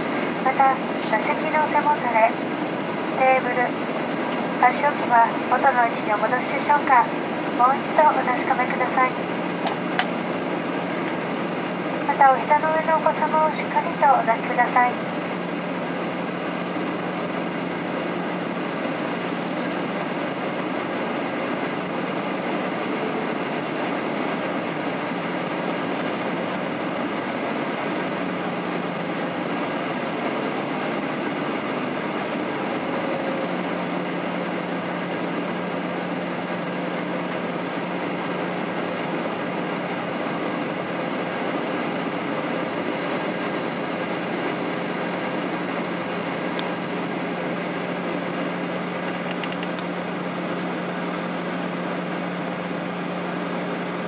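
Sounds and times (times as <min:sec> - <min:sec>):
airplane engine and airflow rush: 0:00.0 - 0:54.0.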